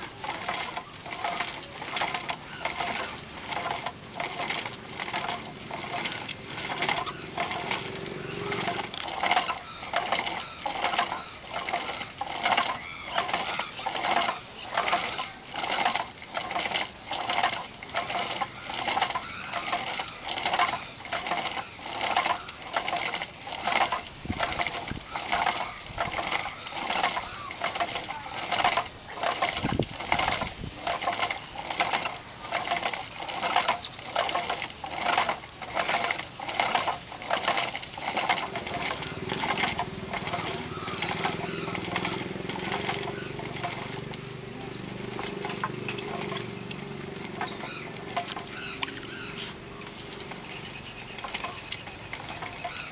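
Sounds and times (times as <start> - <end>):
sandpaper rasping on wood: 0.0 - 41.9, 50.4 - 52.9.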